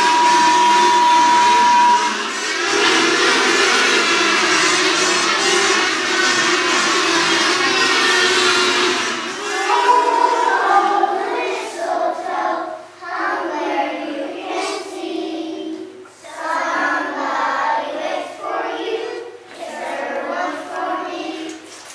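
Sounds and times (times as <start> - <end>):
children singing in unison: 0.0 - 21.8.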